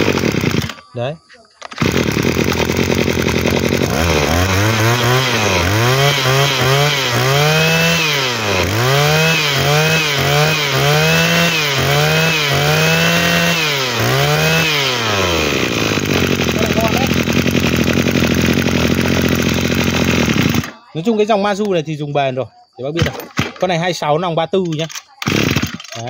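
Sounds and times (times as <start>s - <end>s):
brushcutter engine revving: 0.0s - 0.8s, 1.6s - 21.0s, 25.2s - 26.0s.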